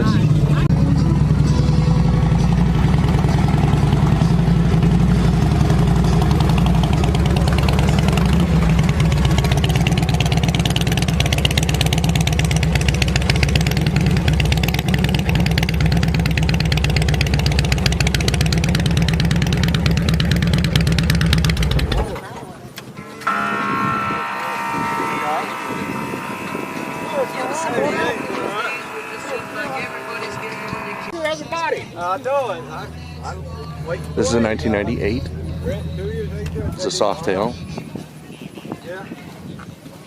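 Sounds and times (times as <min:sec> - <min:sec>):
vehicle engine running: 0:00.0 - 0:22.2, 0:23.0 - 0:37.4.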